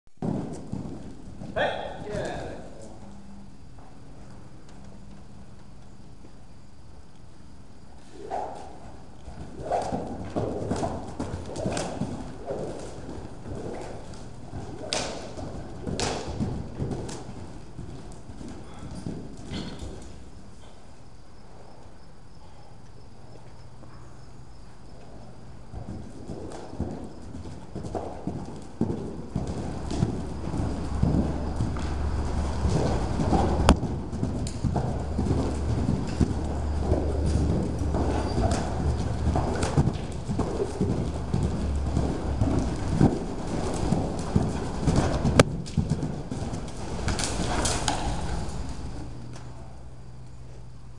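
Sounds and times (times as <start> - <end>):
horse hoofbeats on soft dirt: 0.1 - 50.9.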